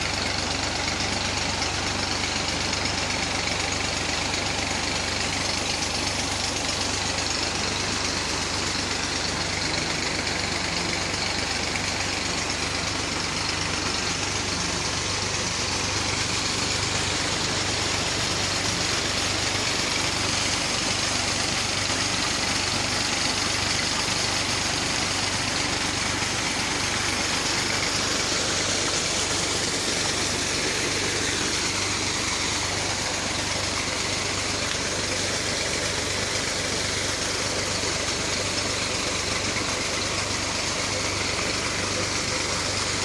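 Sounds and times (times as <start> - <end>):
tractor engine running: 0.0 - 43.0
water pouring out: 0.0 - 43.0.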